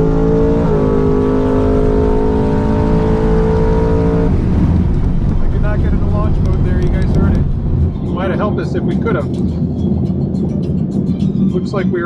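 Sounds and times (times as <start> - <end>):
racing car engine running: 0.0 - 12.0.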